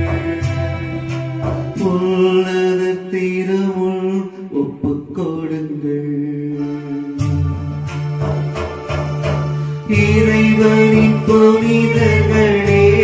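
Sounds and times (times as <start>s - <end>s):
electronic keyboard chords: 0.0s - 13.0s.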